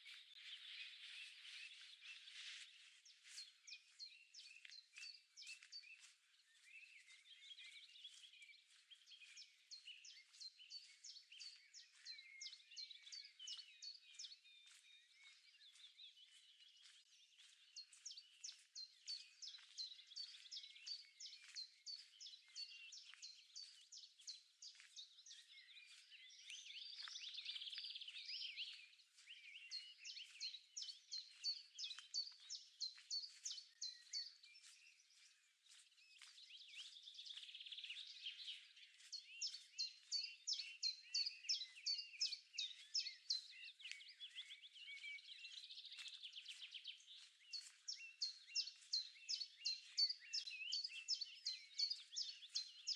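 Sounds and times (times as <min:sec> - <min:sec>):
bird warbling song: 0:00.0 - 0:52.9.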